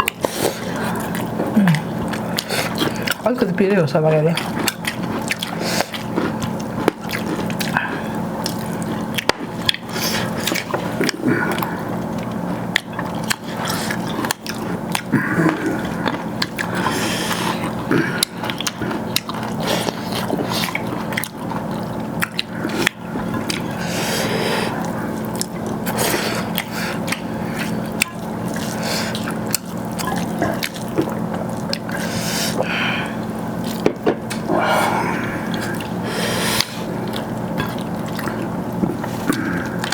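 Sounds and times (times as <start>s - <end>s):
steady low hum: 0.0s - 39.9s
wet chewing: 0.0s - 39.9s.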